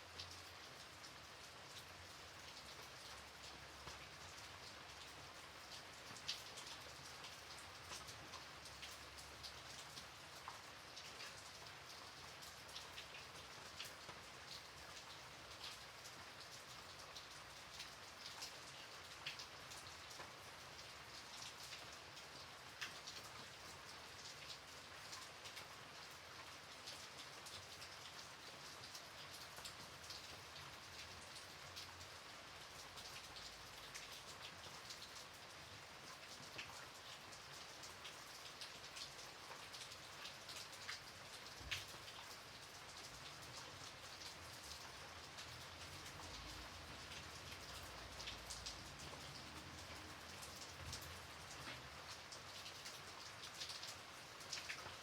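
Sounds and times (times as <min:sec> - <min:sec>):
light rain pattering: 0:00.0 - 0:55.0
raindrops ticking on surfaces: 0:00.0 - 0:55.0.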